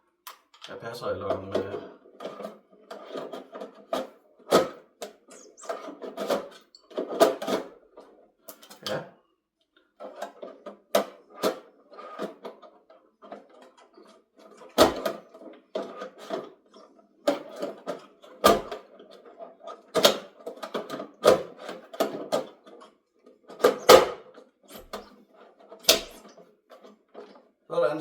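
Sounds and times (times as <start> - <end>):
plastic parts clicking and rattling: 0.3 - 9.0, 10.0 - 27.5.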